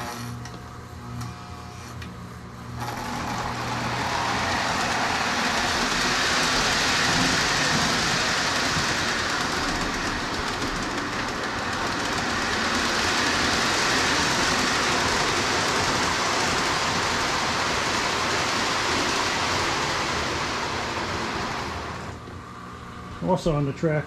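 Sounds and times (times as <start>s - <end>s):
toy train rolling on metal track: 2.8s - 22.2s
wheels clacking over rail joints: 2.8s - 22.2s.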